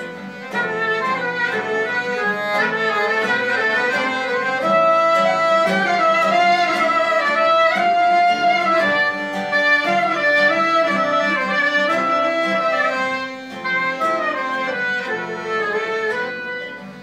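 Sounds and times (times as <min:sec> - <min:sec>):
accordion: 0:00.0 - 0:17.0
clarinet: 0:00.0 - 0:17.0
plucked classical guitar: 0:00.0 - 0:17.0.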